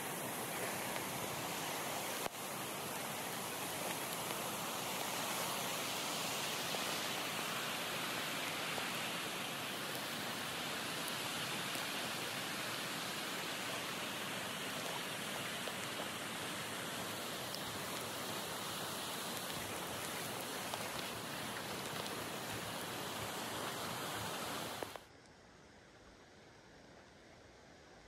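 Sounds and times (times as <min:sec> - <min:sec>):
flood water rushing: 0:00.0 - 0:25.0.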